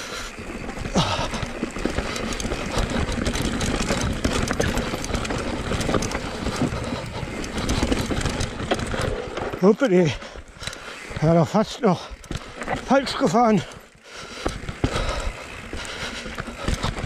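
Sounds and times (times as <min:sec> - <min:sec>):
tyres rumbling over roots and rocks: 0:00.2 - 0:17.0
bike clattering and knocking: 0:00.6 - 0:17.0.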